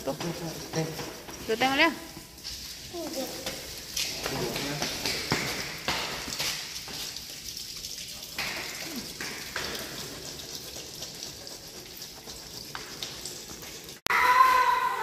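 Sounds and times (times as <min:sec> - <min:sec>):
water spraying onto concrete: 0:00.0 - 0:14.1.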